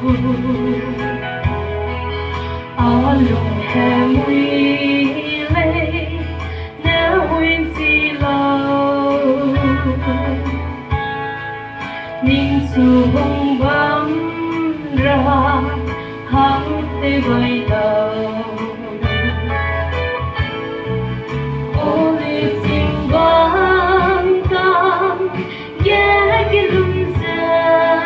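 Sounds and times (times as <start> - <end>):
woman singing into a microphone: 0.0 - 20.6, 21.6 - 28.0
guitar: 0.0 - 28.0
low bass notes: 0.0 - 28.0.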